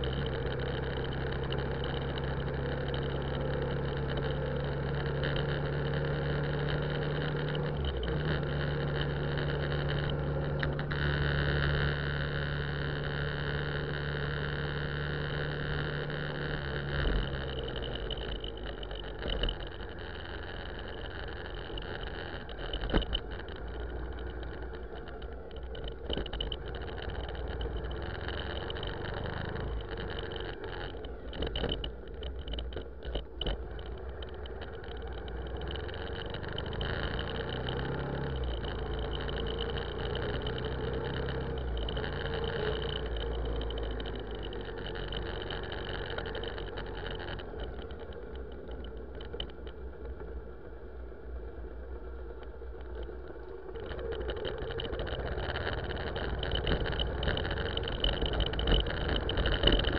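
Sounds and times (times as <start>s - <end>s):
car engine humming: 0.0s - 59.9s.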